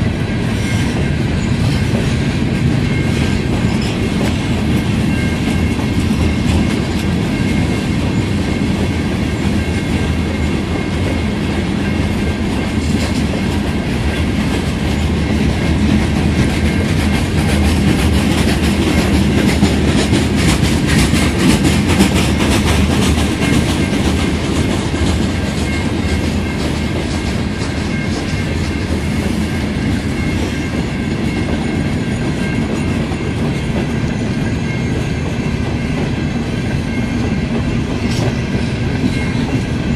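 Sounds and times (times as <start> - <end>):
freight train rolling past: 0.0 - 39.9
steel wheels clicking over rail joints: 0.4 - 39.9.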